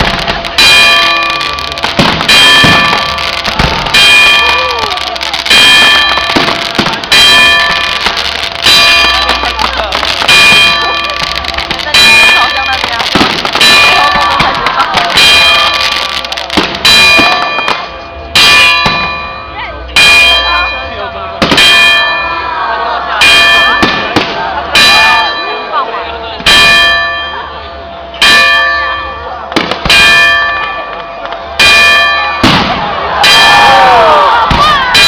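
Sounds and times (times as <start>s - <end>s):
church bell tolling: 0.4s - 35.0s.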